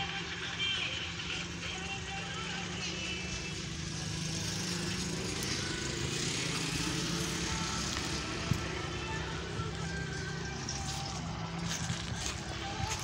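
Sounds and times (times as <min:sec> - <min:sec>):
baling machine engine drone: 0:00.0 - 0:13.0.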